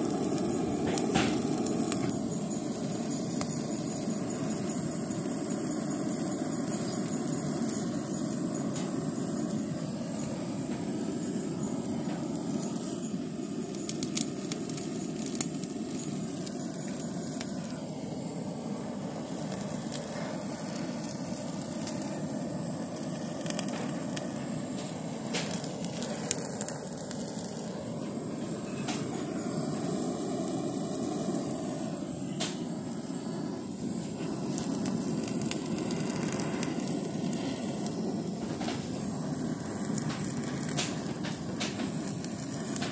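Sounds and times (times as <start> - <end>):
blow torch flame hissing: 0.0 - 42.9
sharp crackles: 0.0 - 42.9.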